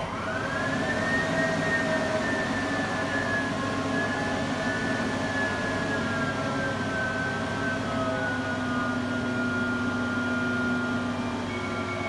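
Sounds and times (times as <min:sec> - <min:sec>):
train machinery whine: 0:00.0 - 0:12.0.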